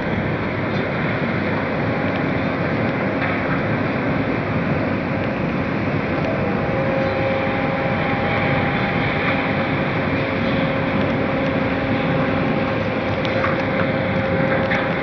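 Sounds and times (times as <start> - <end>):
machinery rumble: 0.0 - 15.0
steady mid-pitched whine: 0.0 - 15.0.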